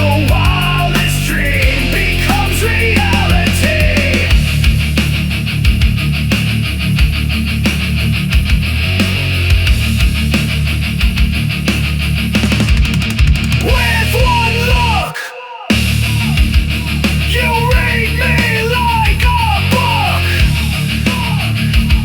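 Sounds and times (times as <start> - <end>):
fast driving drum beat: 0.0 - 22.0
heavy metal rock music: 0.0 - 22.0.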